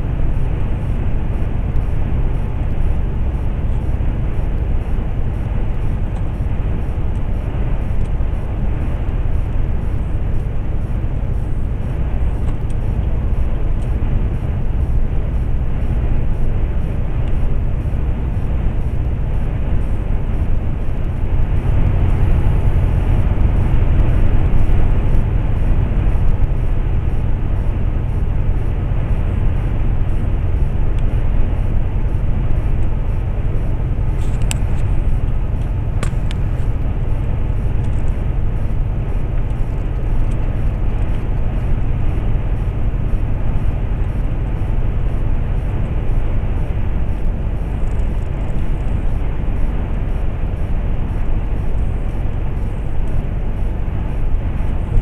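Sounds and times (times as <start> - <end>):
road and wind noise: 0.0 - 55.0
truck engine drone: 0.0 - 55.0.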